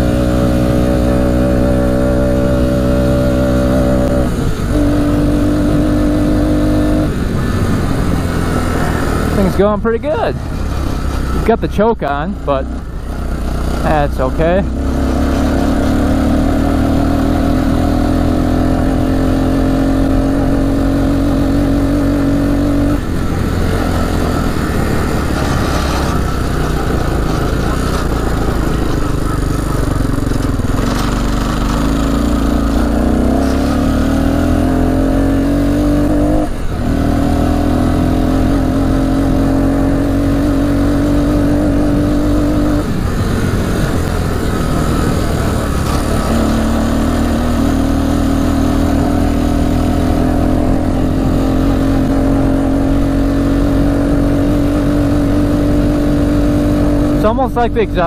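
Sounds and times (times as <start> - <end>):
atv engine under throttle: 0.0 - 58.0.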